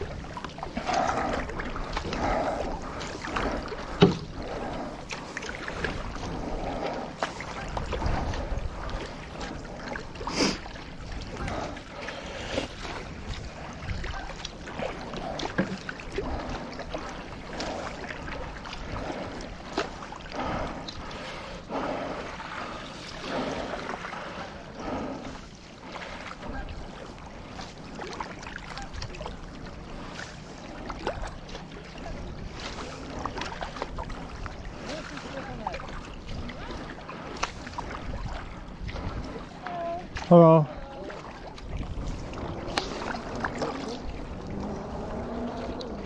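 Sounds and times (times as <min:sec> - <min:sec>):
paddle strokes splashing water: 0:00.0 - 0:46.0.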